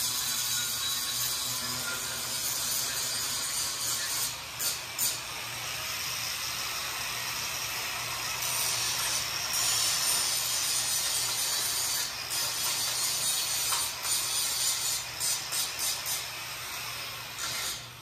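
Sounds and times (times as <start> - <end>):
welding arc hissing and crackling: 0.0 - 18.0.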